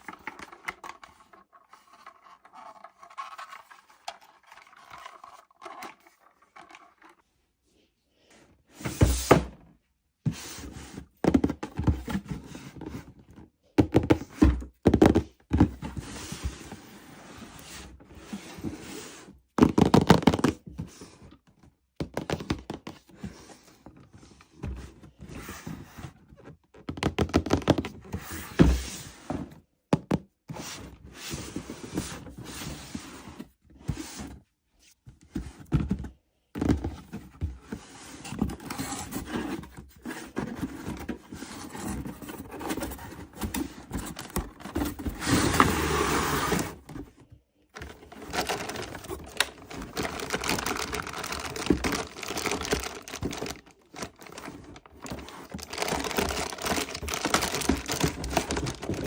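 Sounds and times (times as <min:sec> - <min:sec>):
toys and packaging handled: 0:00.0 - 0:07.6, 0:10.3 - 0:59.0.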